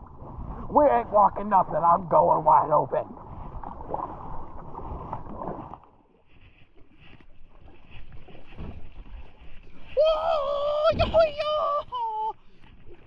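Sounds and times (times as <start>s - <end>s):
water sloshing around paddle: 0.0s - 13.0s.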